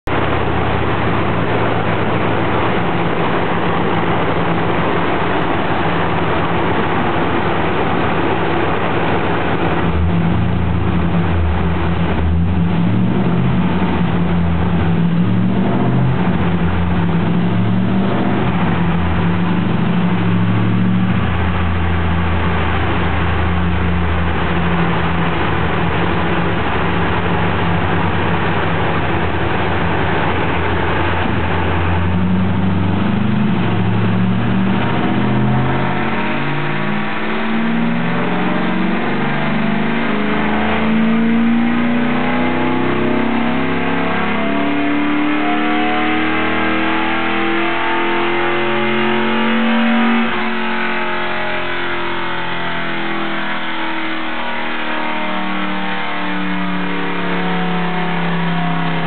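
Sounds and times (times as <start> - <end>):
car engine running on dyno: 0.0 - 59.0
steady rushing noise: 0.0 - 59.0.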